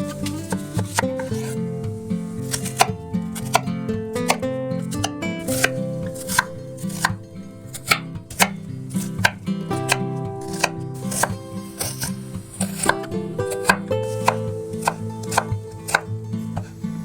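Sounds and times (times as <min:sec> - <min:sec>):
knife chopping on cutting board: 0:00.1 - 0:01.6, 0:02.4 - 0:16.7.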